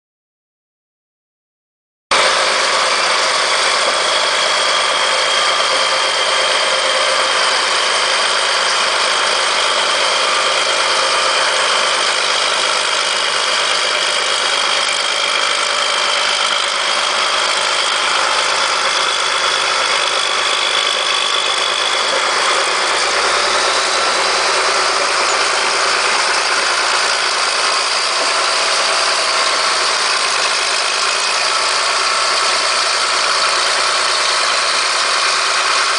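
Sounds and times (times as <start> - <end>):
bulldozer diesel engine running: 2.1 - 35.9
high whine: 2.1 - 35.9.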